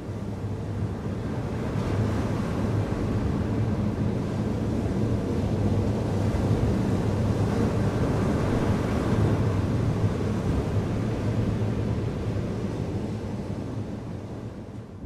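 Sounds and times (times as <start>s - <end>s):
low rumbling wash of noise: 0.0s - 15.0s.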